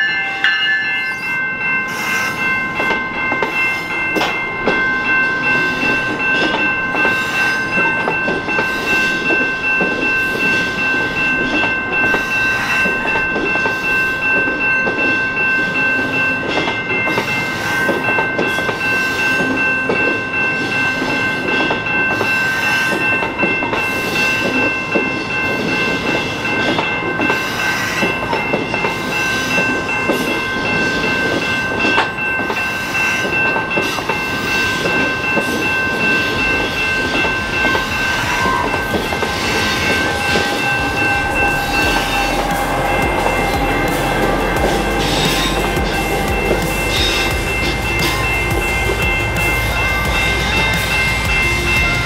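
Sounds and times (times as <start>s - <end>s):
train clacks and knocks: 0.0s - 52.0s
train rumbling: 0.0s - 52.0s
train whine: 0.0s - 52.0s.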